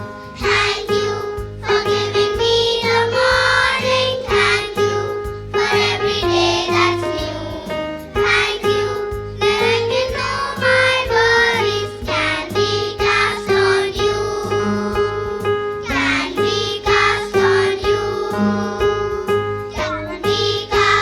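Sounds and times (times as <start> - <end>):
children's song with singing: 0.0 - 21.0
instrumental backing: 0.0 - 21.0.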